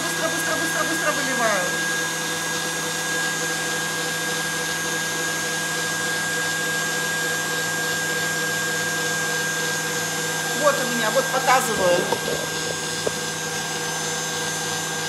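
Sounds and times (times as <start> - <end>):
stand mixer motor whining: 0.0 - 15.0.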